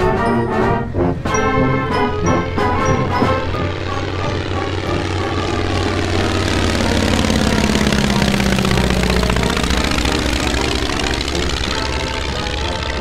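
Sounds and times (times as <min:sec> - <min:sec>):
airplane piston engine and propeller: 0:00.0 - 0:13.0.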